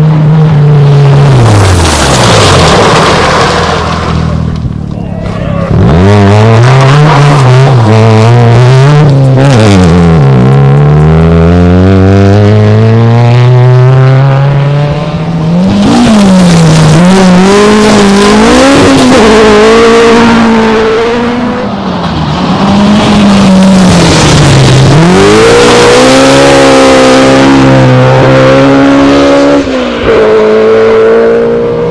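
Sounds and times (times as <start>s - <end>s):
rally car engine revving: 0.0s - 31.9s.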